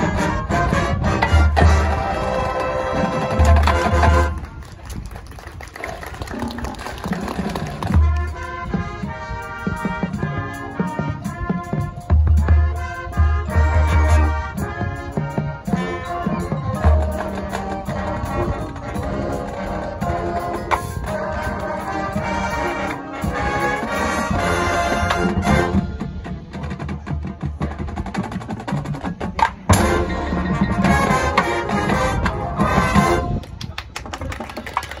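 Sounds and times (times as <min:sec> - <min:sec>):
marching band playing: 0:00.0 - 0:35.0.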